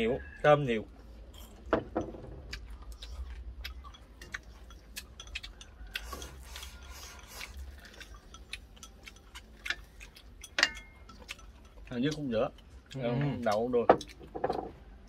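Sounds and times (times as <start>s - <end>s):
chopsticks clicking on dishes: 2.0s - 14.7s.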